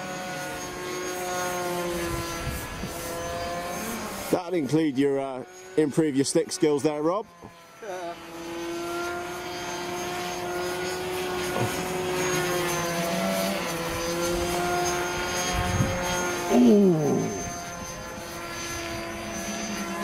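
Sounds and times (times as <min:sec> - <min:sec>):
model aircraft motor buzzing: 0:00.0 - 0:20.0.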